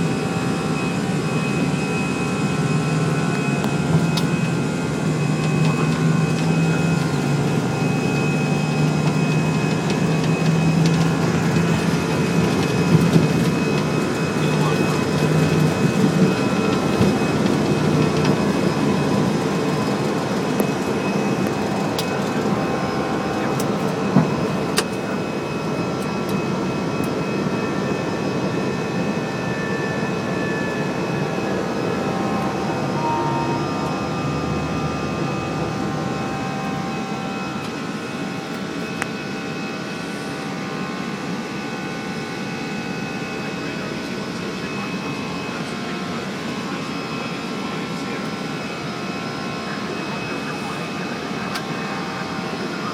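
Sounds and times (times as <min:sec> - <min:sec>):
jet engine and airflow noise: 0:00.0 - 0:52.9
steady whining tones: 0:00.0 - 0:52.9.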